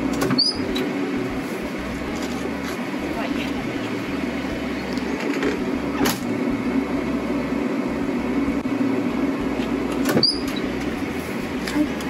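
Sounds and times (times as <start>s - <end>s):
truck engine drone in cab: 0.0s - 12.0s.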